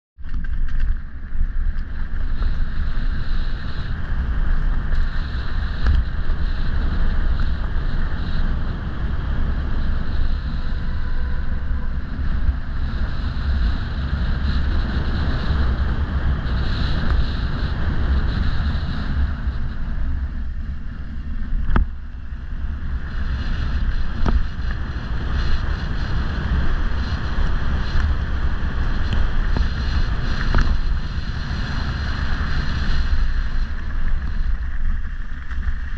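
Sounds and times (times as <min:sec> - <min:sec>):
wind buffeting microphone: 0:00.2 - 0:35.9.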